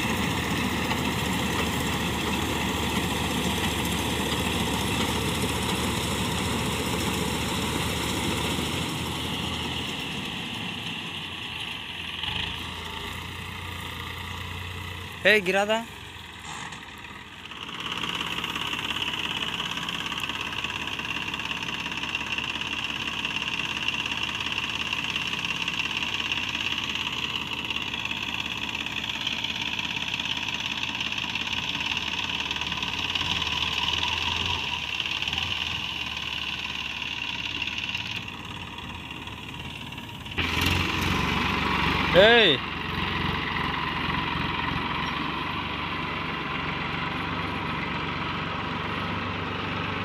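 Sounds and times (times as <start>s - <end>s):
tractor diesel engine: 0.0s - 50.0s.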